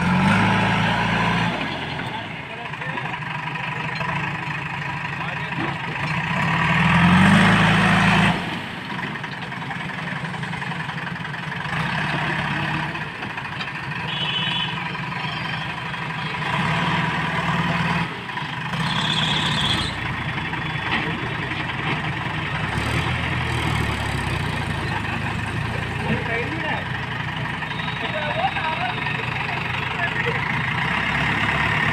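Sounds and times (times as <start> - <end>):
diesel engines running: 0.0 - 31.9.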